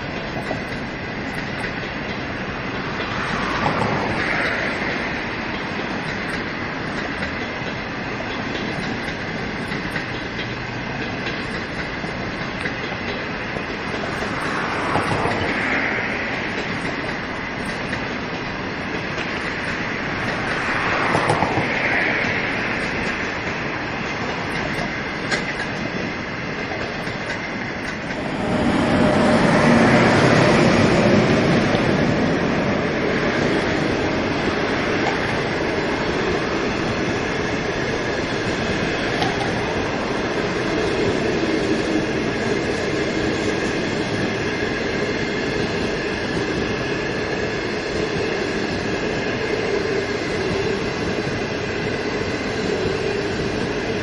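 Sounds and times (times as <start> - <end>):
clickety-clack over rail joints: 0.0 - 54.0
train wheels rumbling: 0.0 - 54.0.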